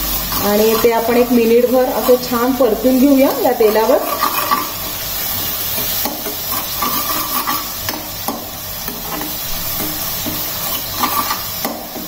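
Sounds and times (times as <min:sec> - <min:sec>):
paste sizzling in hot oil: 0:00.0 - 0:12.0
spoon stirring and scraping: 0:00.1 - 0:12.0.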